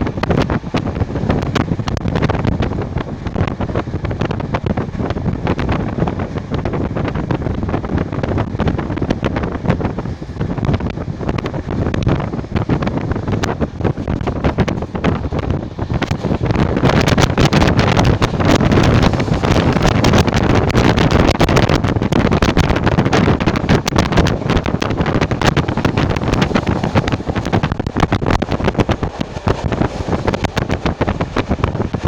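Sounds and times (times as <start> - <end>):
passenger train running: 0.0 - 32.0
wind buffeting microphone: 0.0 - 32.0.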